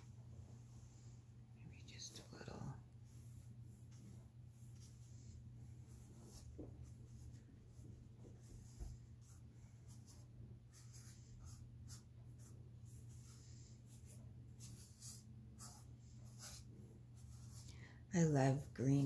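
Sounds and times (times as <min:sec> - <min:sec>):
low steady hum: 0:00.0 - 0:19.0
paintbrush strokes on canvas: 0:02.0 - 0:17.7.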